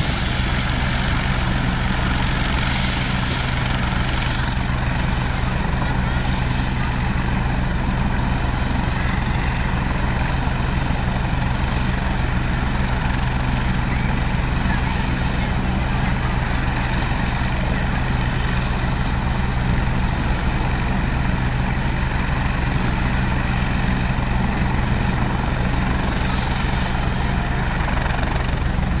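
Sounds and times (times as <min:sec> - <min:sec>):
helicopter rotor beat: 0:00.0 - 0:29.0
high turbine whine: 0:00.0 - 0:29.0.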